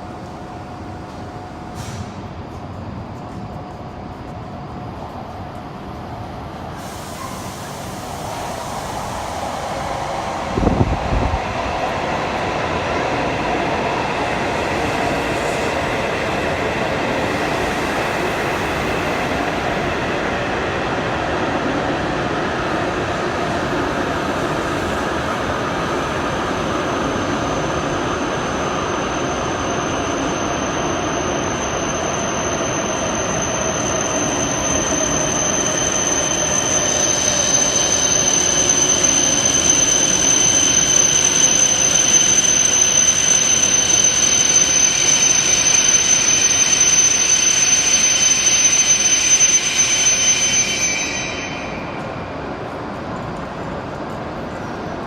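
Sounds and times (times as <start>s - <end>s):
high whine of train: 0.0s - 55.0s
train running at low speed: 0.0s - 55.0s.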